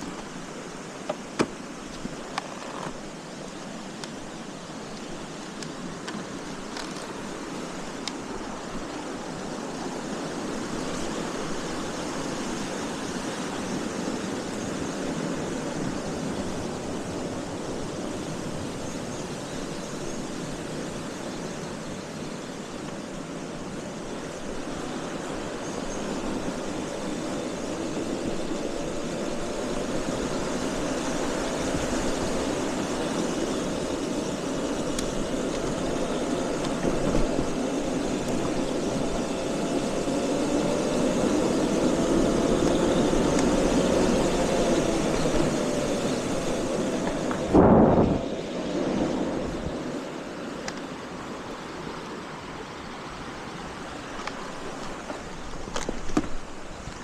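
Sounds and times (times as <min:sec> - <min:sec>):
motorcycle road noise: 0:00.0 - 0:57.0
wind rush: 0:03.1 - 0:57.0.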